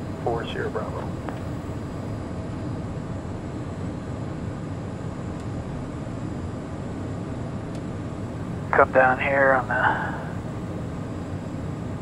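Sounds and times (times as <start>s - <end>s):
jet cockpit noise in flight: 0.0s - 12.0s
turbofan engines: 0.0s - 12.0s.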